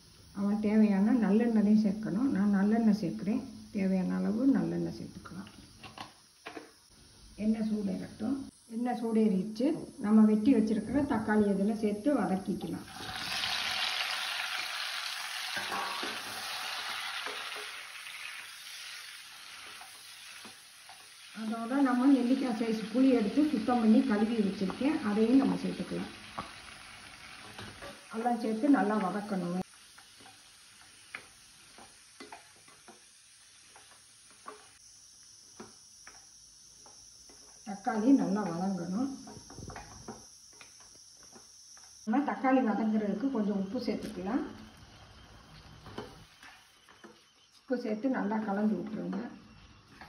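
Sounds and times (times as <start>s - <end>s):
tomatoes sizzling in hot oil: 0.0s - 8.9s, 9.9s - 46.8s
steady high-pitched hiss: 0.0s - 50.0s.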